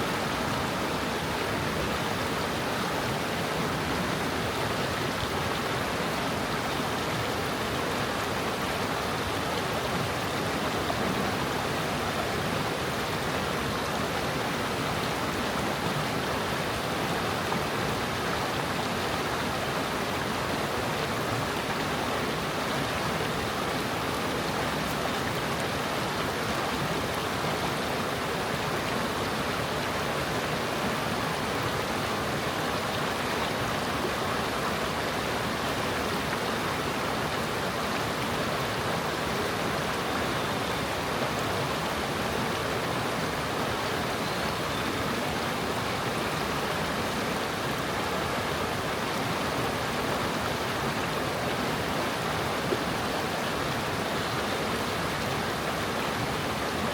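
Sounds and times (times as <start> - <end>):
stream babbling over stones: 0.0 - 56.9.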